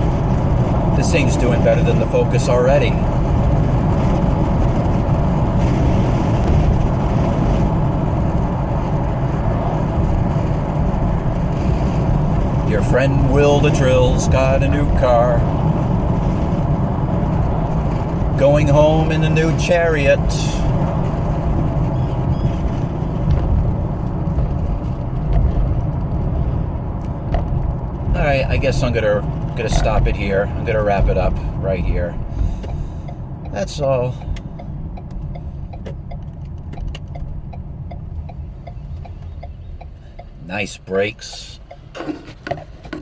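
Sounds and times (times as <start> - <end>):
road and tyre rumble in car: 0.0 - 43.0.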